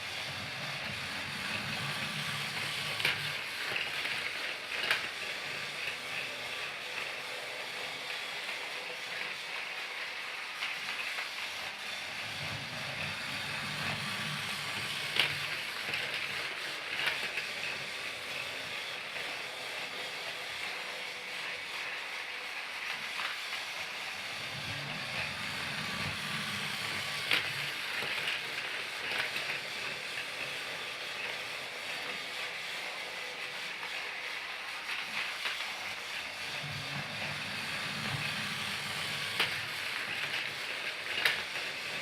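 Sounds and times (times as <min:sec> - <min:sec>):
toy train motor whirring: 0:00.0 - 0:42.0.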